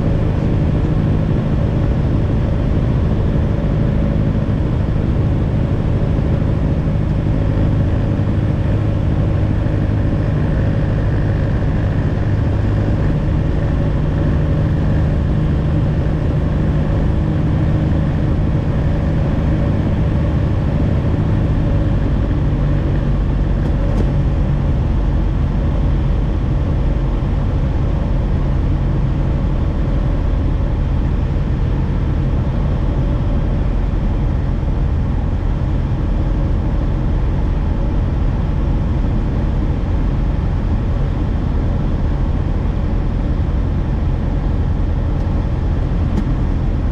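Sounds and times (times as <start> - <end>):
light aircraft engine drone: 0.0 - 46.9.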